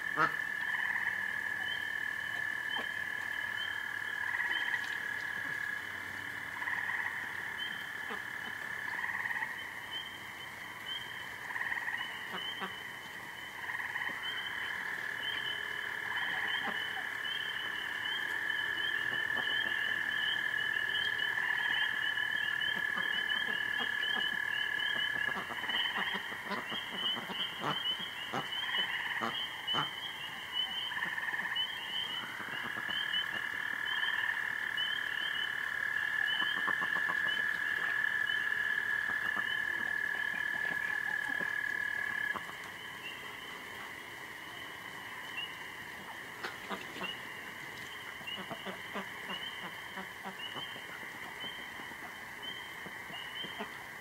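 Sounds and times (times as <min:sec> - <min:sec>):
frog calls: 0:00.0 - 0:54.0
frogs trilling: 0:00.0 - 0:54.0.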